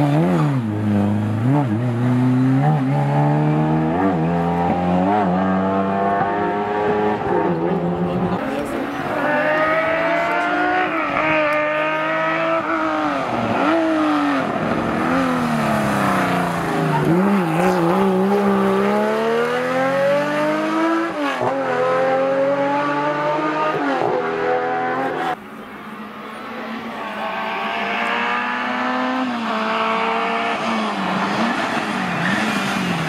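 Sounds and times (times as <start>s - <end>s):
rally car engine revving: 0.0s - 25.4s, 27.1s - 33.0s.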